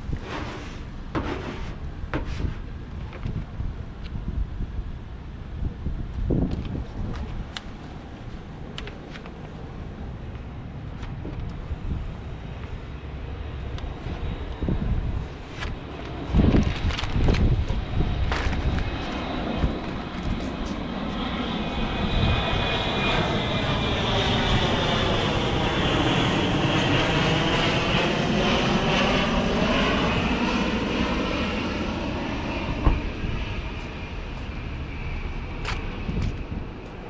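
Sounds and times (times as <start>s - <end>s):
aircraft flying over: 0.0s - 37.0s.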